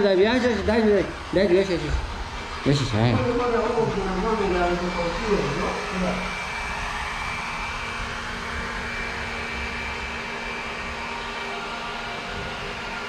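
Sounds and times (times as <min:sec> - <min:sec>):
robot vacuum cleaner whirring: 0:00.0 - 0:13.0.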